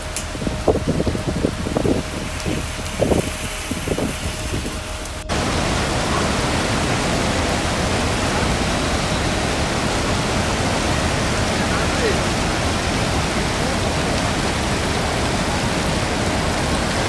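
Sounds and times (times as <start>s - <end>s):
river in flood rushing: 0.0s - 17.0s
steady rain: 0.0s - 17.0s.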